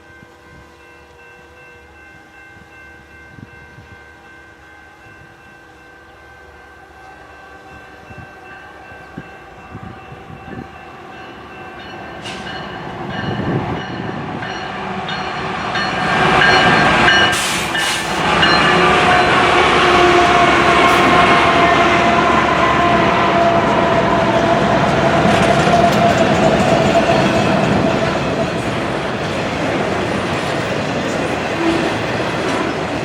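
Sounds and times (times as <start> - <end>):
train approaching: 0.0 - 33.0
wheel and rail noise: 4.6 - 33.0.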